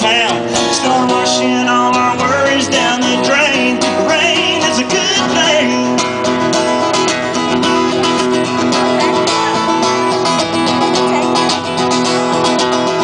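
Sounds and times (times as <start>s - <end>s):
live country band playing: 0.0s - 13.0s
strummed guitar: 0.0s - 13.0s.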